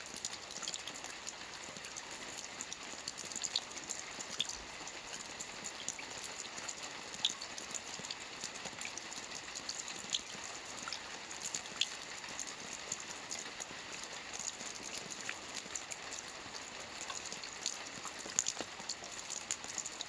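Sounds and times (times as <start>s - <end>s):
soft rain on a roof: 0.0s - 20.0s.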